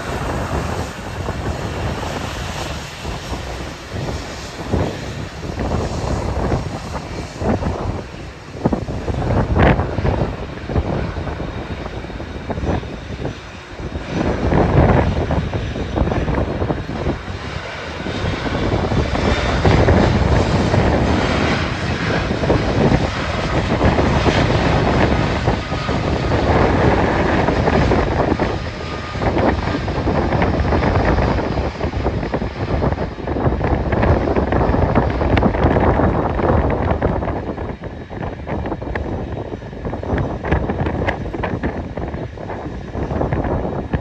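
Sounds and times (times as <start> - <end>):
jet aircraft engines: 0.0 - 44.0
wind buffeting microphone: 0.0 - 44.0.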